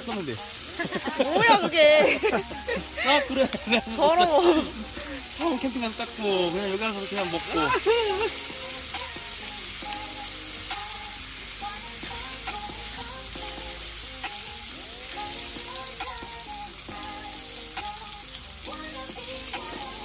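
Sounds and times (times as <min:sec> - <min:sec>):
meat sizzling in a pan: 0:00.0 - 0:20.0.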